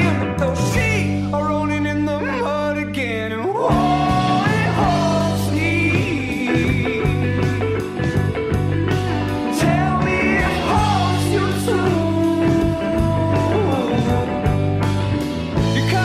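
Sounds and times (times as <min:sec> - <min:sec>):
rock song with singing: 0:00.0 - 0:16.0.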